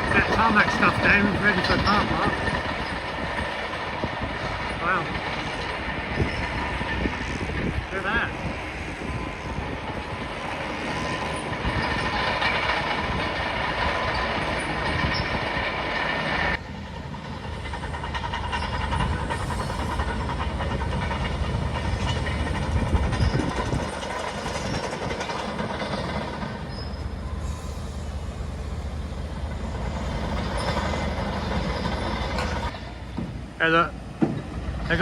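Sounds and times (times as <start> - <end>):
heavy engines rumbling: 0.0 - 35.0.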